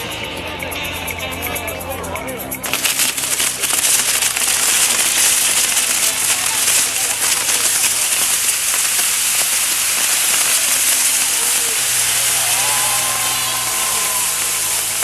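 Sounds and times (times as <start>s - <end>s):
firework crackles: 2.6s - 15.0s
fireworks fountains hissing: 2.6s - 15.0s.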